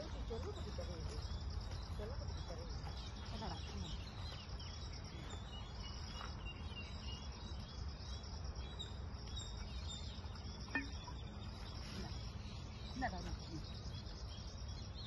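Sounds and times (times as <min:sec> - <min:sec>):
faint bird chirps: 0:00.0 - 0:15.0
high insect chirring: 0:00.0 - 0:15.0.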